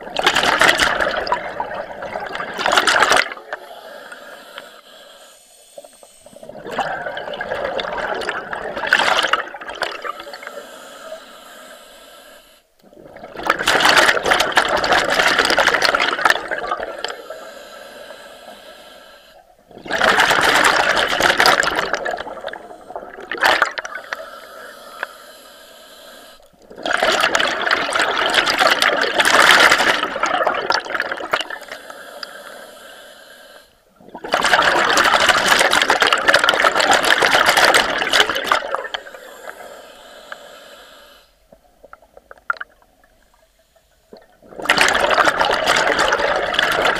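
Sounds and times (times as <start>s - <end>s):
underwater exhaled air bubbles: 0.0s - 46.9s
diver inhaling underwater: 1.0s - 13.1s, 14.6s - 34.0s, 34.8s - 46.9s.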